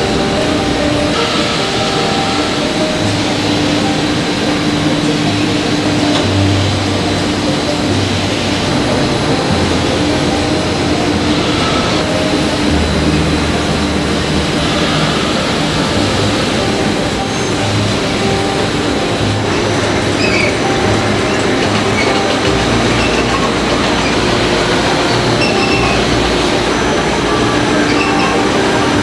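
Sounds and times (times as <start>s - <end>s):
humming tone: 0.0s - 29.0s
loud machinery din: 0.0s - 29.0s.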